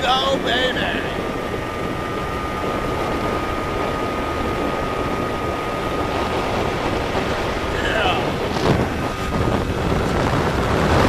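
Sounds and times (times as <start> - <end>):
boat motor running: 0.0 - 11.0
thin high whine: 0.0 - 11.0
wind and water rushing: 0.0 - 11.0.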